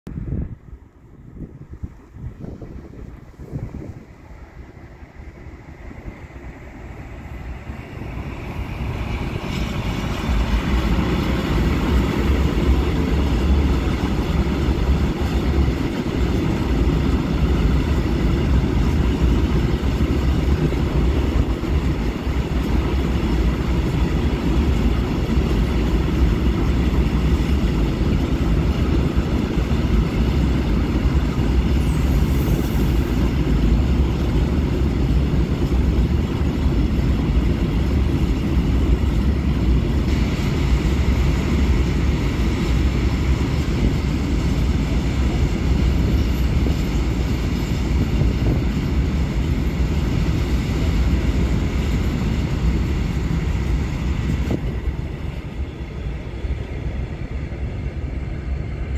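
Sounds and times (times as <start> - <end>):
freight train wheels rumbling: 0.1 - 58.9.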